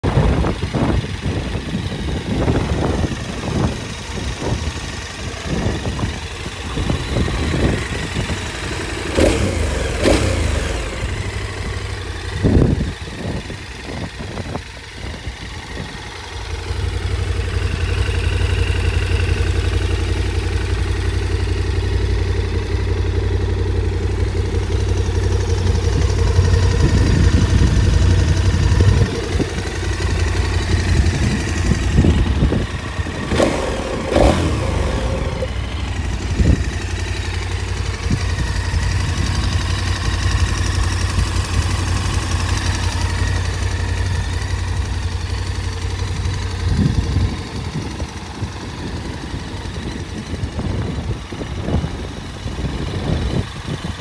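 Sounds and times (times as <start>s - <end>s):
motorcycle engine rumbling and idling: 0.0s - 54.0s.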